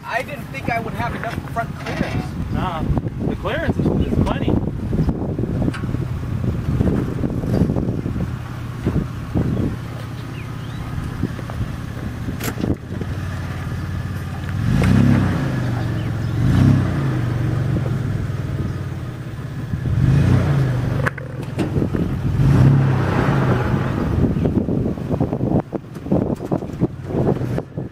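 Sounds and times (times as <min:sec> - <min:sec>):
engine running and revving: 0:01.2 - 0:27.9.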